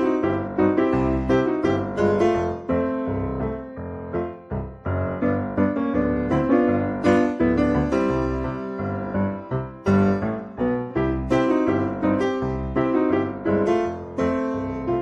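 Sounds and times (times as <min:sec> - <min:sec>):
piano music with bass line: 0:00.0 - 0:15.0.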